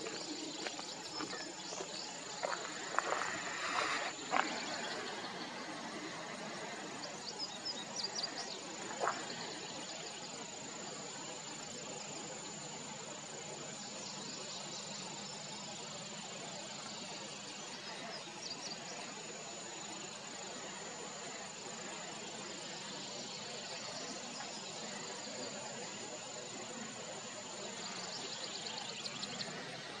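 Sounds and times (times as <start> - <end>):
insects droning: 0.0 - 30.0
rapid insect chirping: 0.0 - 30.0.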